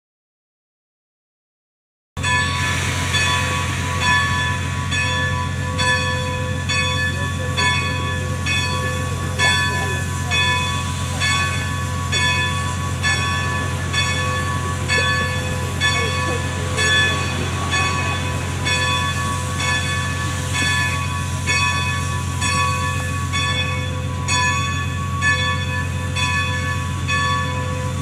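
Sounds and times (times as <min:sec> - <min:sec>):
locomotive engine rumble: 0:02.2 - 0:28.0.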